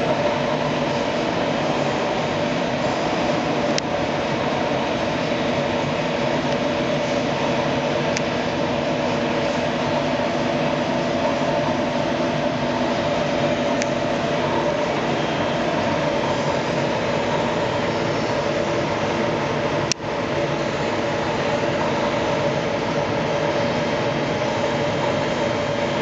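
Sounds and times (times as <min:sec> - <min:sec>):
lathe humming: 0:00.0 - 0:26.0.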